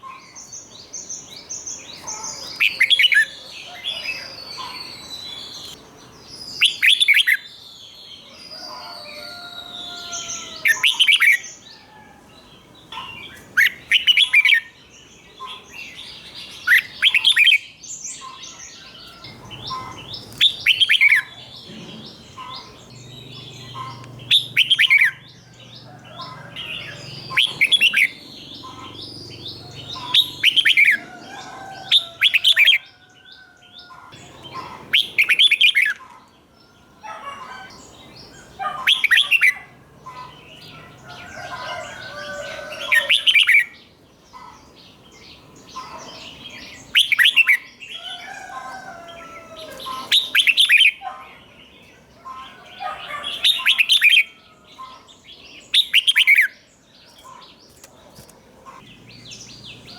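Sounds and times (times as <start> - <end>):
bird singing clear phrases: 0.0 - 59.9.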